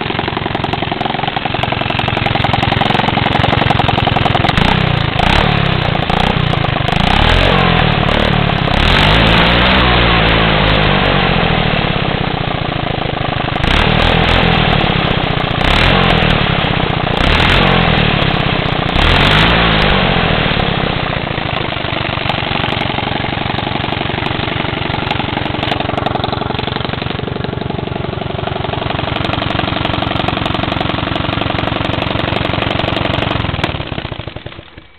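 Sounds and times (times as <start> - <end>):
engine revving and idling: 0.0 - 34.9.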